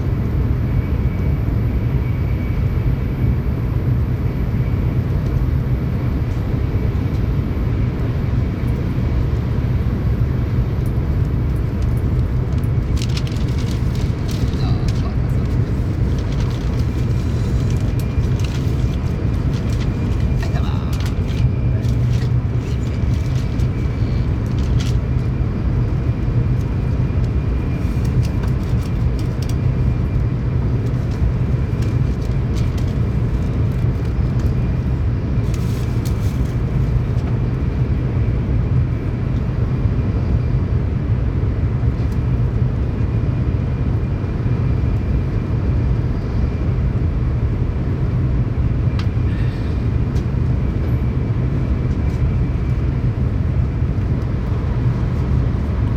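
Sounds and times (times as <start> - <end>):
train running rumble: 0.0 - 55.9.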